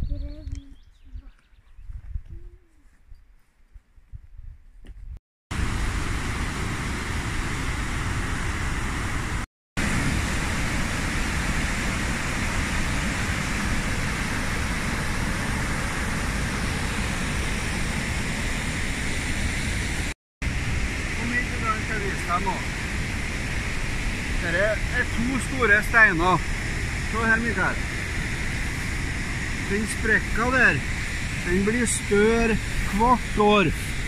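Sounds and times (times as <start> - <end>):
fast-flowing water rushing: 5.5 - 34.0.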